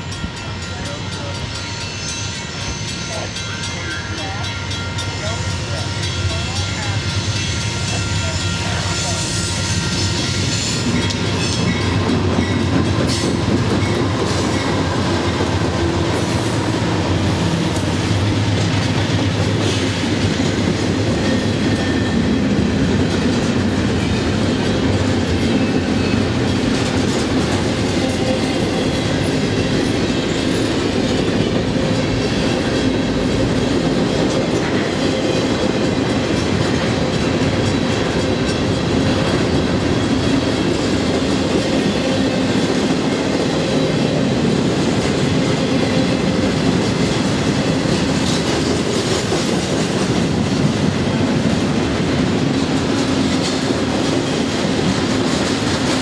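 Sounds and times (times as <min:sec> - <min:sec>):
diesel locomotive engines: 0:00.0 - 0:56.0
freight train wheels on rails: 0:00.0 - 0:56.0.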